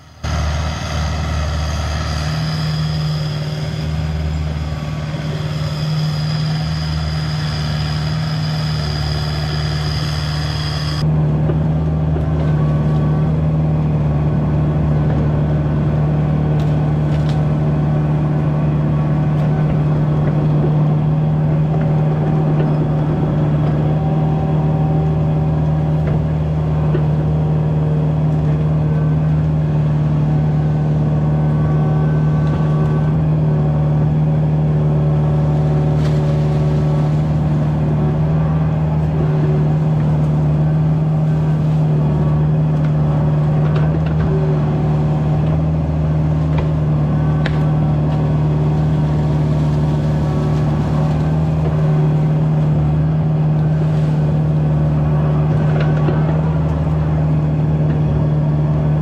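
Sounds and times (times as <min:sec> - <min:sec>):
excavator diesel engine running: 0:00.0 - 0:59.0
hydraulic whine: 0:00.0 - 0:59.0.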